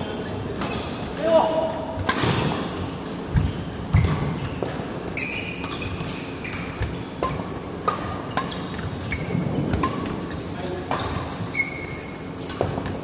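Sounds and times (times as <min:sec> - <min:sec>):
shoes squeaking on court: 0:00.0 - 0:01.3, 0:02.2 - 0:13.0
rackets striking shuttlecock: 0:00.6 - 0:11.3.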